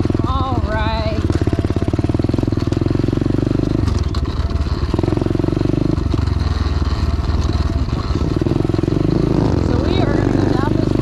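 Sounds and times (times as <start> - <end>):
motorbike engine running hard: 0.0 - 11.0.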